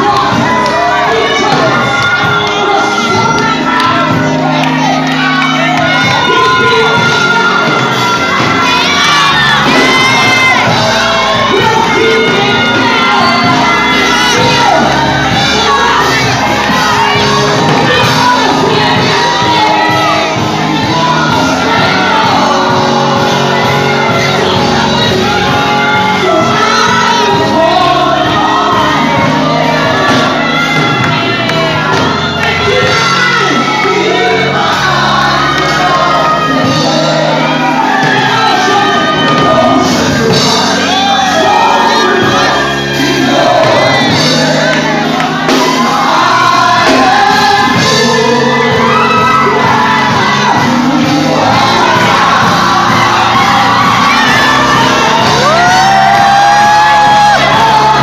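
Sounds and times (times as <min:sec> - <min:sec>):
backing singers: 0:00.0 - 0:58.0
loud amplified music: 0:00.0 - 0:58.0
people shouting: 0:00.0 - 0:58.0
woman singing into a microphone: 0:00.0 - 0:58.0.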